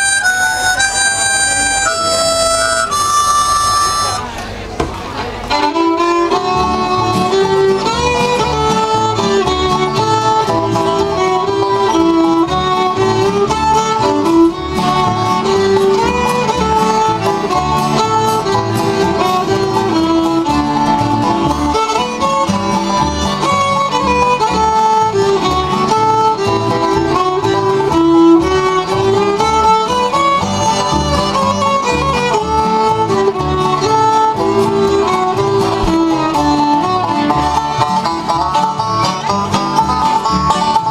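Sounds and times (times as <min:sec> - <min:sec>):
banjo: 0:00.0 - 0:40.9
fiddle melody: 0:00.0 - 0:40.9
plucked upright double bass: 0:00.0 - 0:40.9
strummed acoustic guitars: 0:00.0 - 0:40.9.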